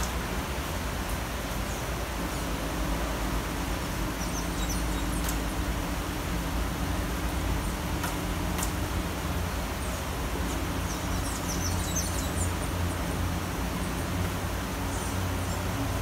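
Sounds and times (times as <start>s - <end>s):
low traffic rumble: 0.0s - 16.0s
rain hiss: 0.0s - 16.0s.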